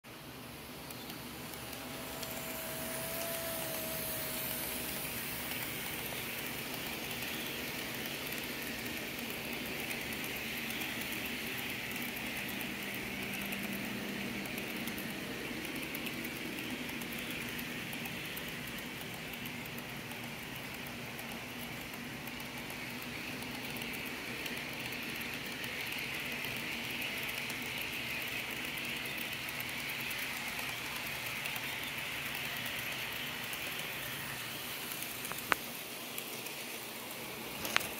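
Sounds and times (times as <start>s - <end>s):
model train rolling on track: 0.1s - 37.9s.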